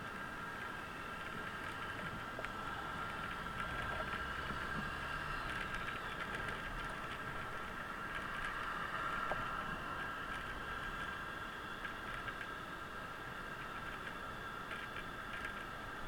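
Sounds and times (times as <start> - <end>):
scooter engine and riding noise: 0.0 - 16.0.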